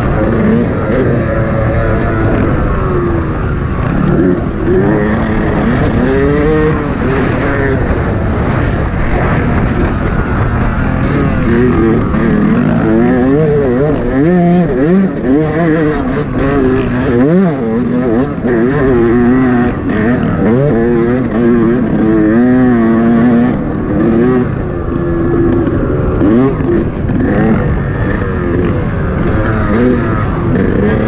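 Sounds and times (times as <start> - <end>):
motocross engine revving: 0.0 - 31.0.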